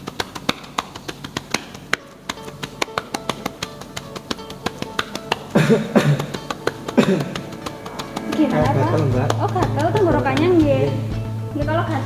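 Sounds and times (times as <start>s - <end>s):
cupped hands clapping on back: 0.0s - 11.7s
guitar-like musical tones: 2.0s - 12.0s.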